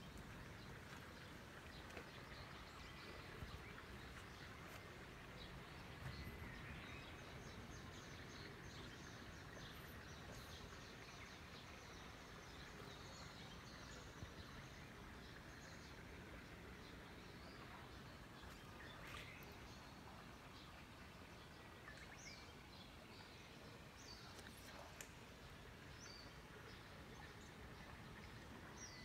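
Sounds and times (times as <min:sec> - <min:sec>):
faint hiss: 0:00.0 - 0:29.0.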